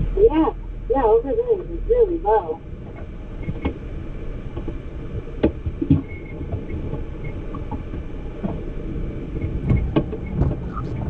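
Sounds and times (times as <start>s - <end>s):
low rumbling in car cabin: 0.0s - 11.0s.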